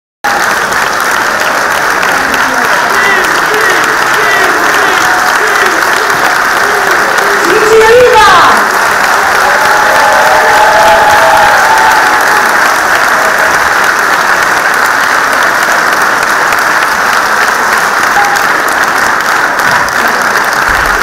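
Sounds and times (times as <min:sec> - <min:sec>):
audience applause: 0:00.2 - 0:21.0.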